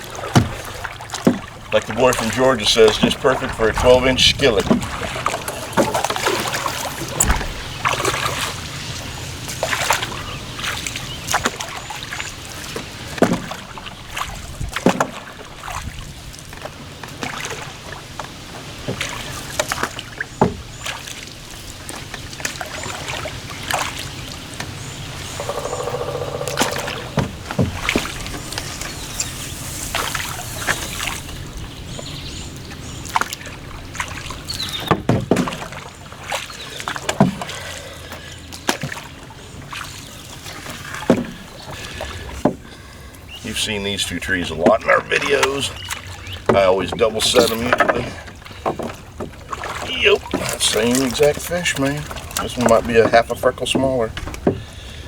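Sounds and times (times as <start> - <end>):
paddle strokes in water: 0.0 - 55.0
water dripping and splashing: 0.0 - 55.0.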